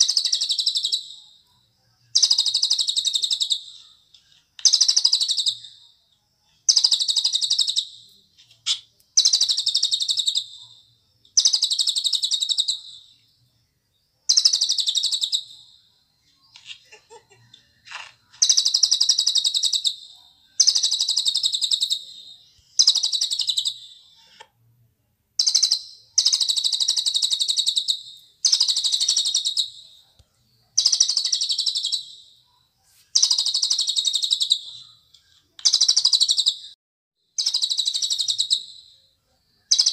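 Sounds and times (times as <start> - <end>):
bird singing trilled phrases: 0.0 - 13.3, 14.2 - 17.3, 18.3 - 24.3, 25.4 - 32.4, 33.2 - 36.8, 37.4 - 39.9.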